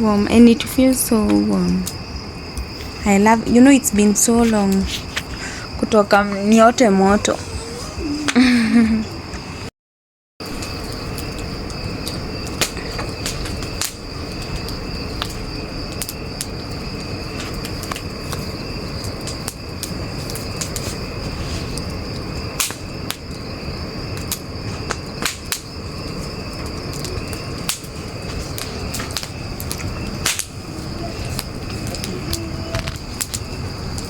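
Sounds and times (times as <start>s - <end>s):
bonfire crackling and popping: 0.0s - 9.6s, 10.4s - 34.0s
crickets chirring: 0.0s - 9.7s, 10.4s - 34.0s.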